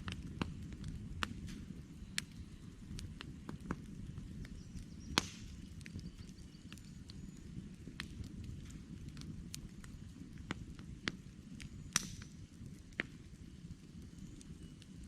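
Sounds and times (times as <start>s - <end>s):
logs crackling and snapping: 0.0s - 15.0s
low rumble of flames: 0.0s - 15.0s.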